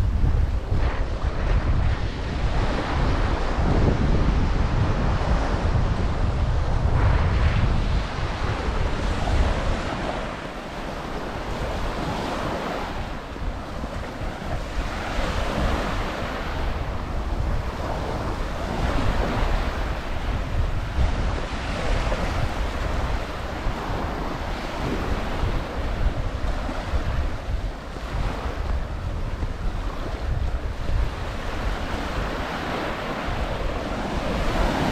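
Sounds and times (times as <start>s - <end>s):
waves washing onto beach: 0.0s - 34.9s
wind rumbling on microphone: 0.0s - 34.9s.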